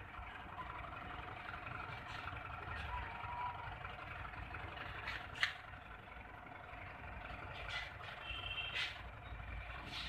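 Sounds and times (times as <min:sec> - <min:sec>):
engine hum: 0:00.0 - 0:10.0.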